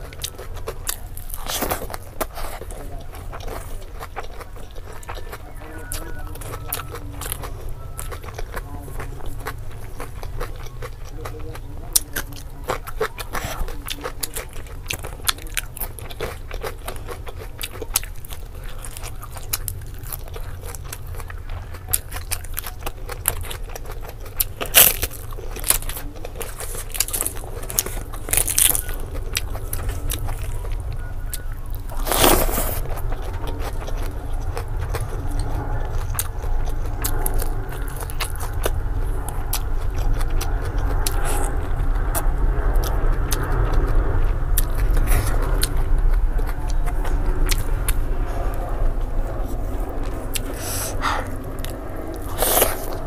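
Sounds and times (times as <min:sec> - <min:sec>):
crunching crisp papad: 0:00.0 - 0:53.0
steady low rumble: 0:00.0 - 0:53.0
wet chewing: 0:00.0 - 0:53.0.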